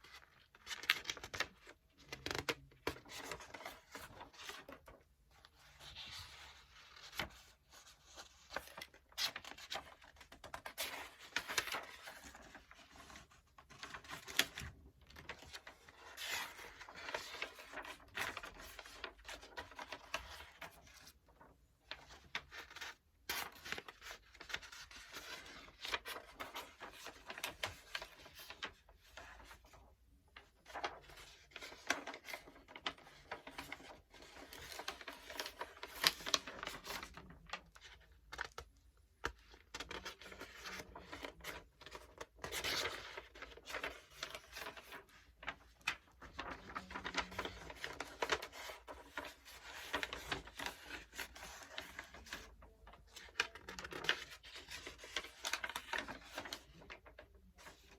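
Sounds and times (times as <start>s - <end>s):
book pages turning: 0.0s - 57.9s.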